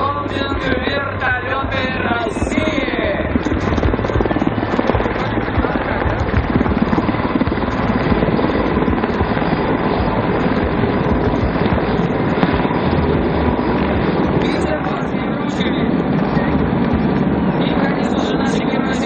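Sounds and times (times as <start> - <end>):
helicopter engine noise: 0.0 - 19.0
helicopter rotor chop: 0.0 - 19.0.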